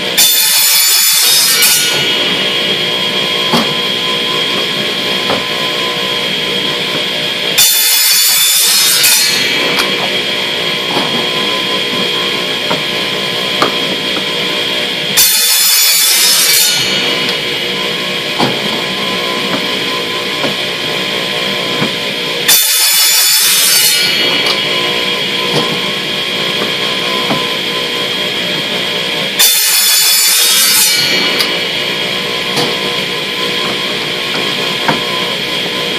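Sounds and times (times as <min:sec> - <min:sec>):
power saw cutting plastic pipe: 0:00.0 - 0:35.9.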